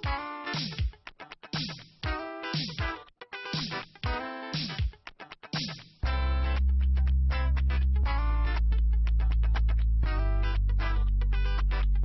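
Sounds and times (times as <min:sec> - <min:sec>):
guitar-led music with bass: 0:00.0 - 0:12.0.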